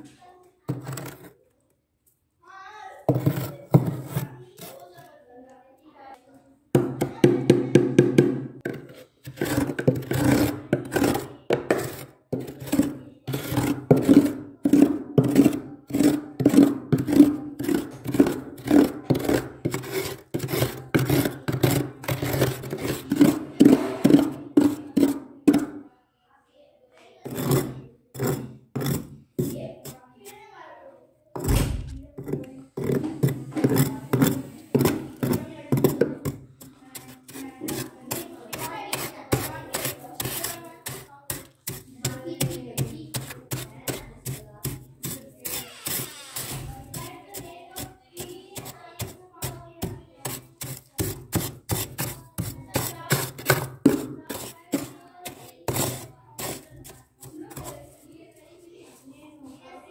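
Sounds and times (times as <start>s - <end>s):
spoon scraping freezer frost: 0.0s - 1.6s, 3.1s - 5.2s, 8.6s - 25.7s, 27.2s - 30.6s, 32.2s - 58.8s.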